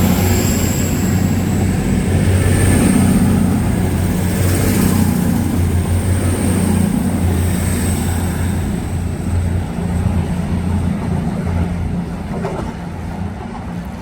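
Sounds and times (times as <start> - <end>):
diesel train engines droning: 0.0 - 14.0.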